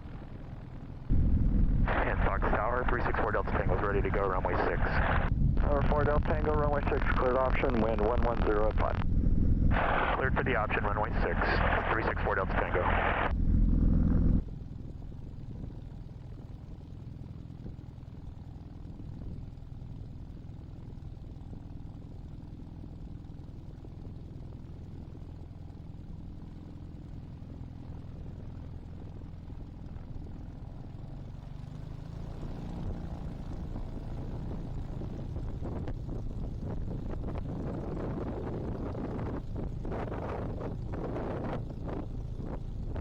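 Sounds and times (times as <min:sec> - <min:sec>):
small aircraft engine and propeller: 0:00.0 - 0:43.0.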